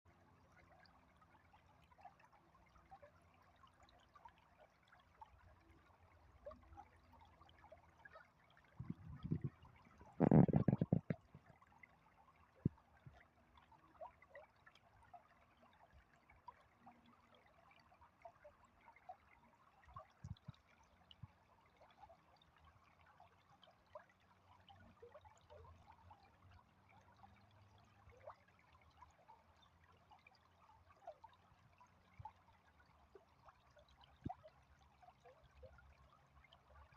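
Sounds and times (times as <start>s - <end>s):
trickling water: 0.1s - 36.9s.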